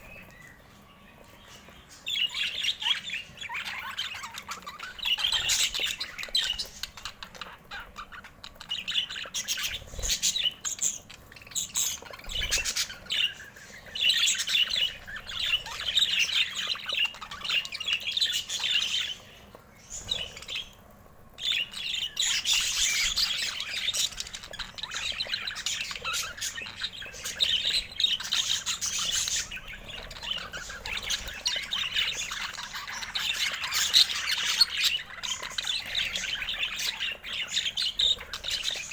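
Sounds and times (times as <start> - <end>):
budgerigars chirping: 1.2 - 20.8, 21.4 - 38.9.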